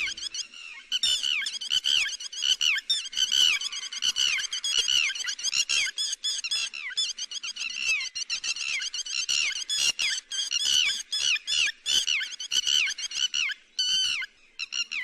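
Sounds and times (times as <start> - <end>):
lapwing calls: 0.0 - 15.0.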